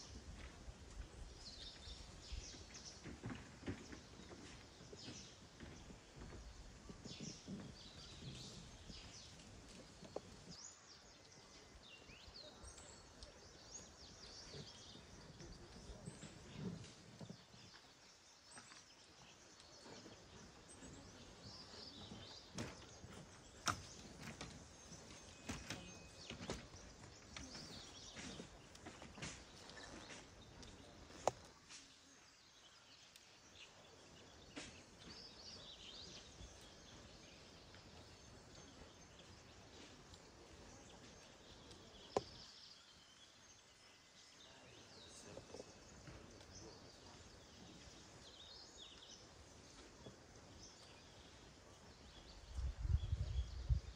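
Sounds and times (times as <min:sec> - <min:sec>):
faint outdoor ambience: 0:00.0 - 0:53.9.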